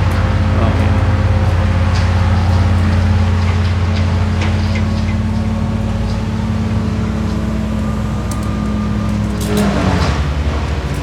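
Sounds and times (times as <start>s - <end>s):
large engine running: 0.0s - 11.0s.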